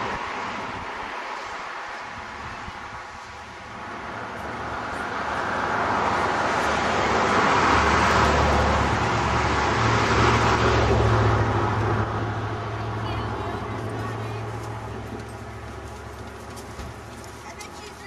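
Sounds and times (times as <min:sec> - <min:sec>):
motor vehicle passing by: 0:00.0 - 0:18.0.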